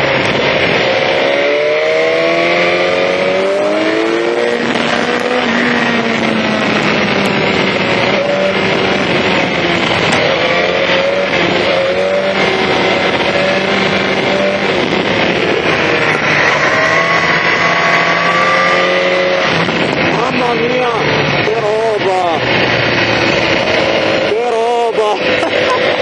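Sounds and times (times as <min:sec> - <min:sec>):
motorcycle engine revving: 0:00.0 - 0:26.0
wind noise: 0:00.0 - 0:26.0.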